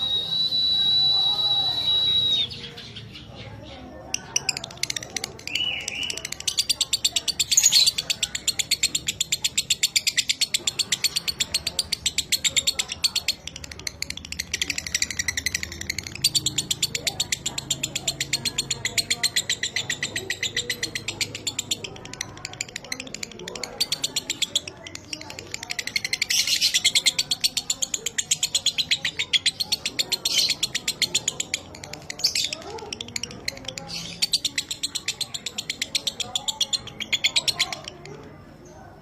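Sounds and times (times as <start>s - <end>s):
lovebird chattering trill: 1.1s - 38.7s.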